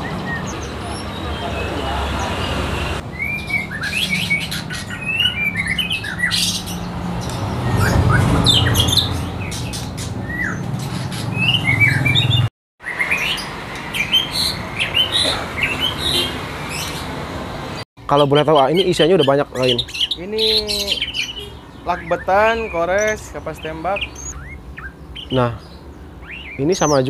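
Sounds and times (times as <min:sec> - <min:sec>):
songbirds chirping and whistling: 0:00.0 - 0:27.0.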